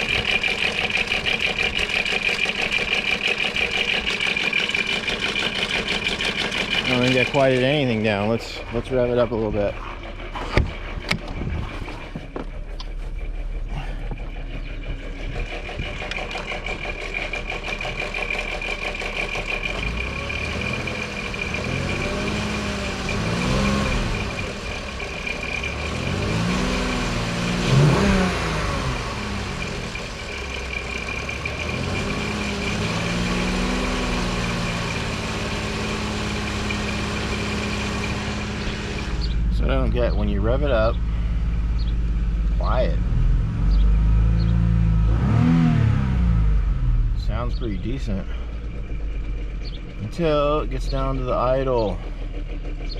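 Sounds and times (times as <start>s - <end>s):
engine rattle: 0.0s - 52.9s
van engine idling and revving: 0.0s - 52.9s.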